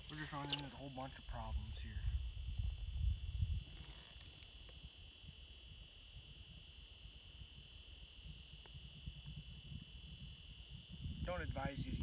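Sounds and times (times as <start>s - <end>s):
faint wind rumble on microphone: 0.0s - 12.0s
steady high-pitched whine: 0.0s - 12.0s.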